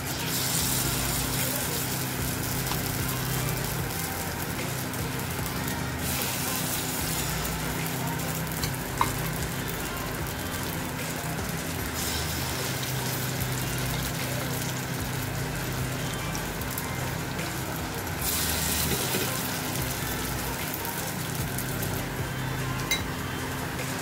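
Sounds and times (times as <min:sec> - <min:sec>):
oil sizzling in a pan: 0:00.0 - 0:24.0.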